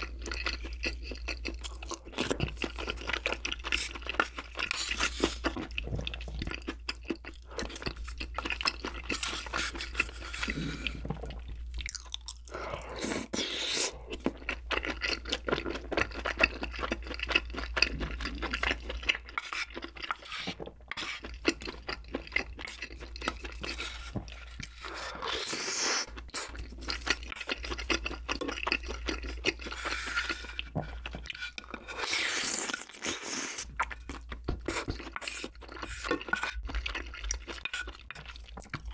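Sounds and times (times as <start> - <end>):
wet chewing with mouth clicks: 0.0 - 38.9.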